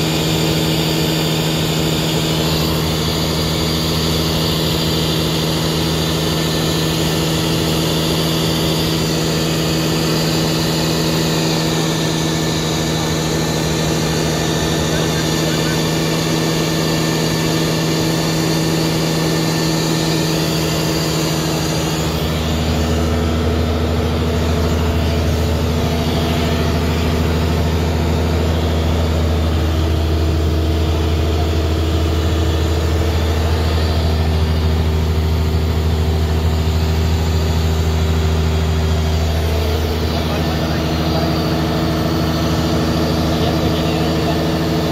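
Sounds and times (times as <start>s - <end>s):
boat engine humming: 0.0s - 44.9s.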